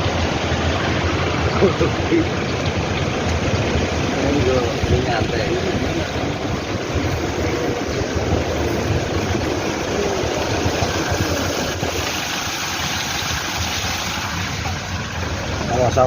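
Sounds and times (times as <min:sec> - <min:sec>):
road noise: 0:00.0 - 0:16.0
vehicle engine rumbling: 0:00.0 - 0:16.0.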